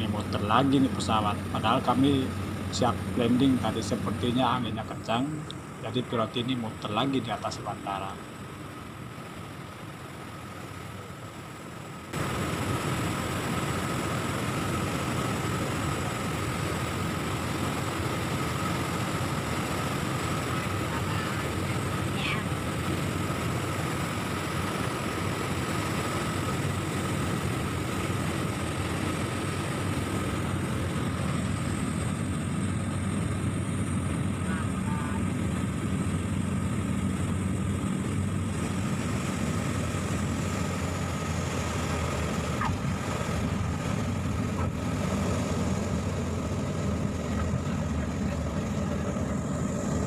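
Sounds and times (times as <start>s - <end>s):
airplane engine and propeller drone: 0.0s - 50.0s
high whine: 0.0s - 50.0s.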